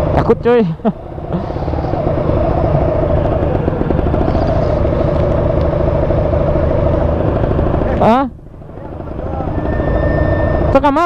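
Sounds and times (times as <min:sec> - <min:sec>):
two-stroke motorcycle engine running: 0:00.0 - 0:11.0.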